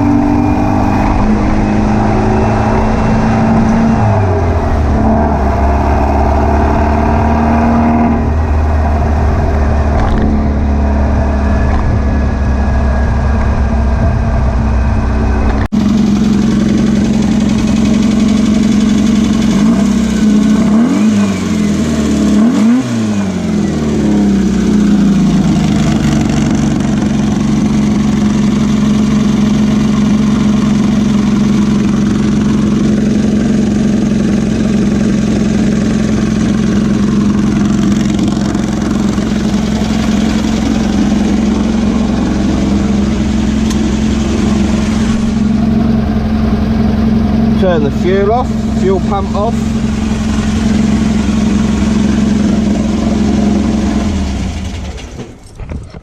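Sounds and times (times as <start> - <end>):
engine running and revving: 0.0 - 56.0.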